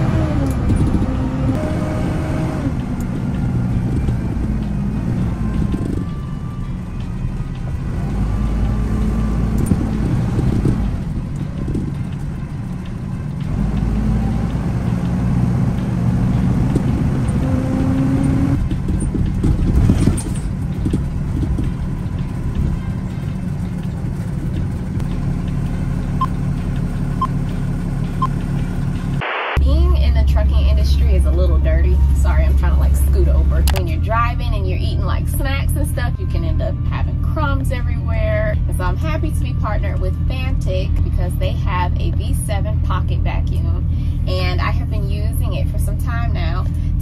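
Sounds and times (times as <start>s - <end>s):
truck engine and road noise: 0.0s - 47.0s.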